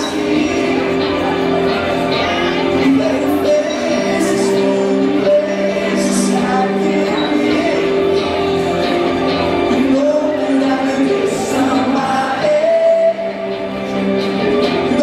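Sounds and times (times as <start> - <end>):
electric guitars sustained chords: 0.0 - 15.0
person singing: 0.0 - 15.0
rock band playing loudly: 0.0 - 15.0.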